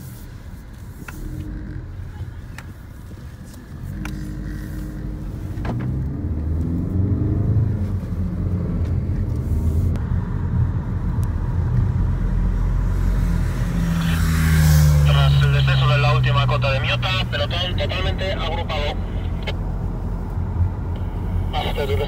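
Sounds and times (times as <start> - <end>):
car engine accelerating: 1.0 - 22.0.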